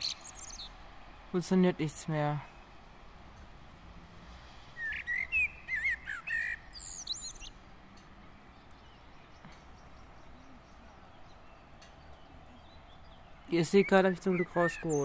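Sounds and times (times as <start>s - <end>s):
songbird singing: 0.0s - 3.7s, 4.6s - 15.0s.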